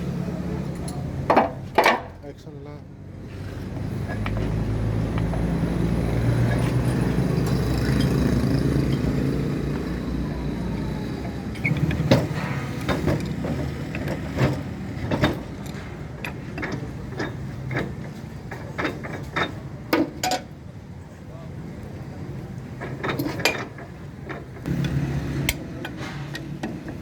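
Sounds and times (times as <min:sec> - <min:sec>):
engine running: 0:00.0 - 0:19.9, 0:22.1 - 0:27.0.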